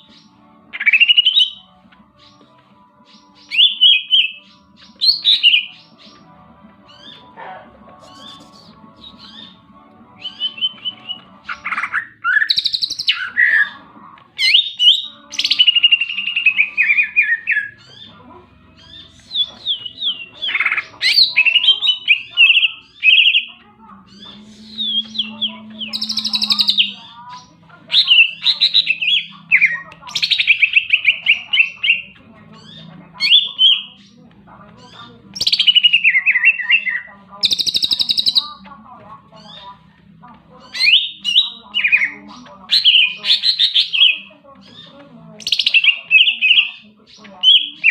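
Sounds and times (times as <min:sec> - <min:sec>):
bird singing trills and whistles: 0:00.0 - 0:06.3, 0:06.9 - 0:07.3, 0:08.0 - 0:09.6, 0:10.2 - 0:13.8, 0:14.4 - 0:34.2, 0:34.8 - 0:38.7, 0:39.4 - 0:39.8, 0:40.6 - 0:47.9.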